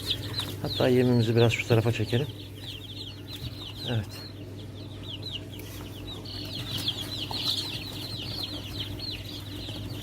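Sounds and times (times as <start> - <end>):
chicks peeping: 0.0 - 10.0
steady low hum: 0.0 - 10.0.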